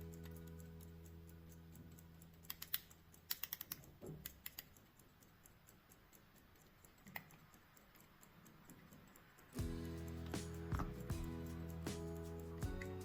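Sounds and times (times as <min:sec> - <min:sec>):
fast watch ticking: 0:00.0 - 0:13.0
pocket watch clicks and taps: 0:00.0 - 0:13.0.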